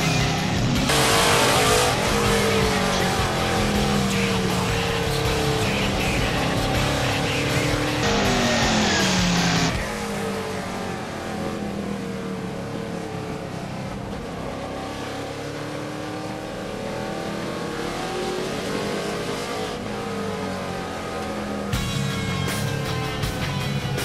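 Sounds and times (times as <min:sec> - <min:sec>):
race truck engine: 0:00.0 - 0:24.0.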